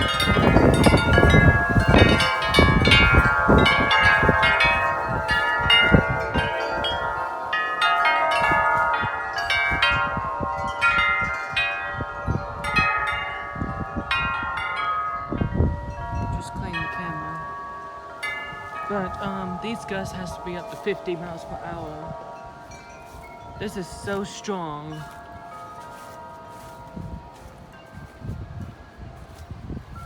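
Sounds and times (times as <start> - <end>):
tubular wind chimes ringing: 0.0 - 30.0
wind buffeting microphone: 0.0 - 30.0.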